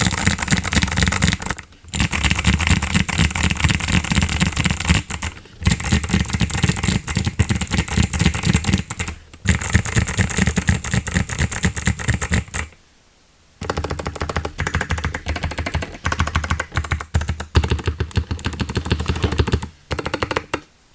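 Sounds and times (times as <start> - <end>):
mechanical keyboard typing: 0.0 - 12.8, 13.6 - 20.7.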